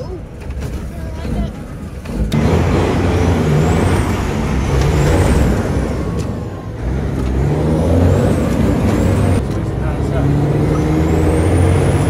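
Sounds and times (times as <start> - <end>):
diesel truck engine accelerating: 0.0 - 12.0
high engine whine: 0.0 - 12.0.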